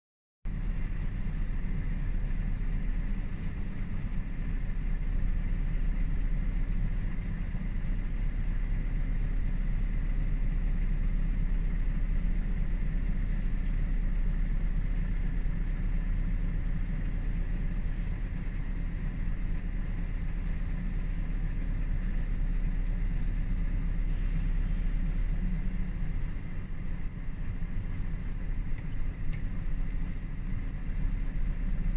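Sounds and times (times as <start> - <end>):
engine rumbling under load: 0.5 - 31.9.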